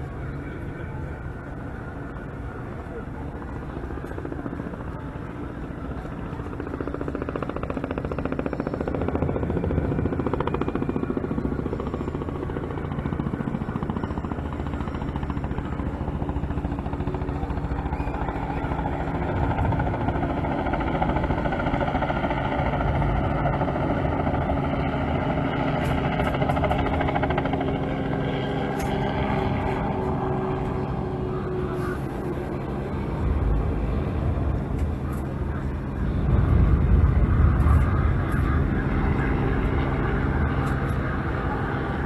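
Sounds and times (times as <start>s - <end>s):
engine droning: 0.0s - 42.0s.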